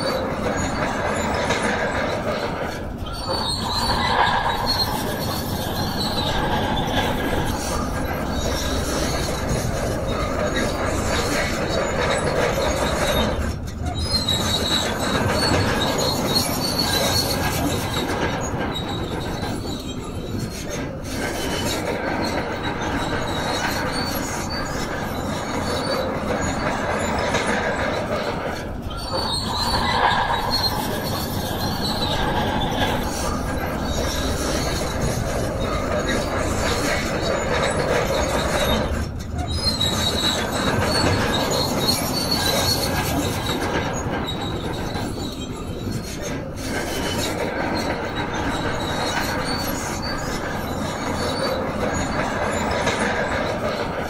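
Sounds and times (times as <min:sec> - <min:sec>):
metallic squeal and grinding: 0:00.0 - 0:54.0.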